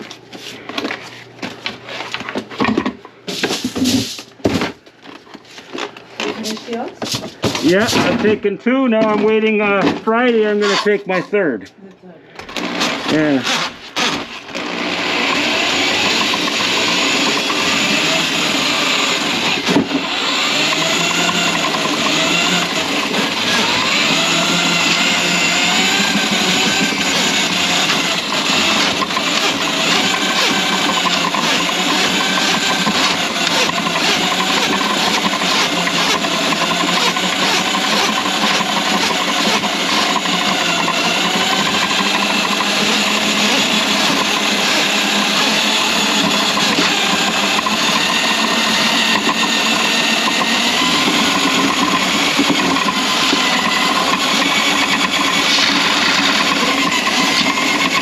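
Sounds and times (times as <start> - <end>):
drain cleaning machine running: 6.3 - 11.4, 12.4 - 58.0.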